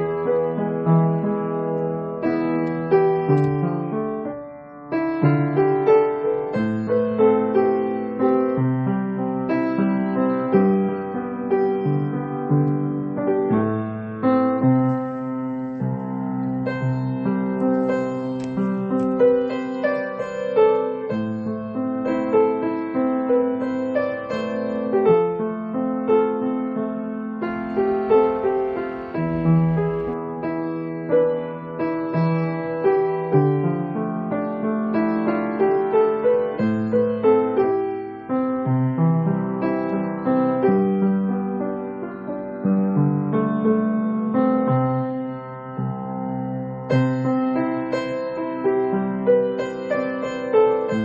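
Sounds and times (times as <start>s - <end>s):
gentle piano music: 0.0s - 51.0s.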